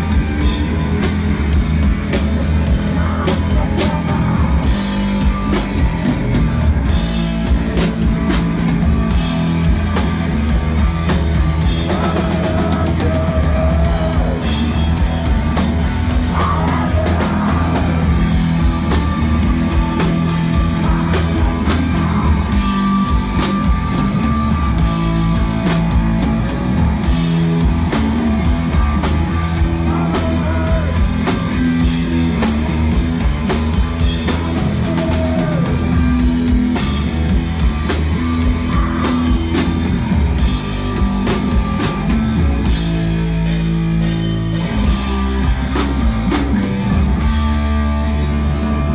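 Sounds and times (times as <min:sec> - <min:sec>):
live rock band playing: 0:00.0 - 0:48.9
sliding lead guitar lines: 0:00.0 - 0:48.9.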